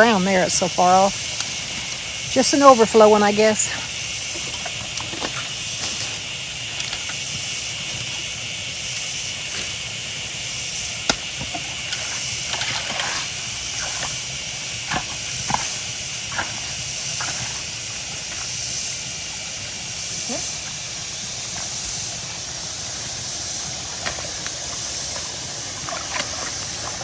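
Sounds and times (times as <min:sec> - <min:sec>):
water rushing from culverts: 0:00.0 - 0:27.0.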